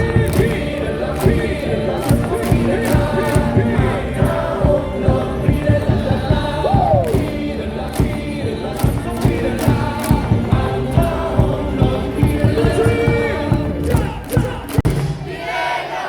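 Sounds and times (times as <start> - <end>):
loud amplified music with beat: 0.0 - 15.3
stadium crowd singing in unison: 0.0 - 16.0.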